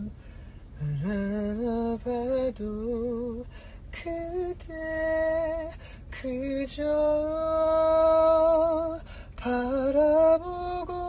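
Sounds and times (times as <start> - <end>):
man singing unaccompanied ballad: 0.0 - 11.0.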